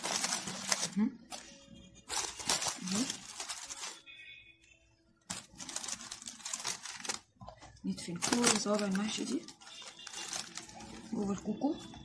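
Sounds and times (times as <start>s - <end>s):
aluminium foil crinkling: 0.0s - 4.3s, 5.2s - 12.0s.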